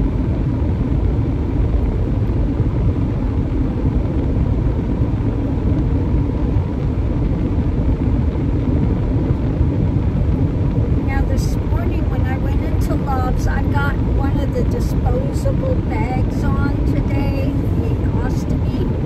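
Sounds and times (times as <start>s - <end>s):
car cabin road and engine rumble: 0.0s - 19.0s
faint steady hum: 0.0s - 19.0s.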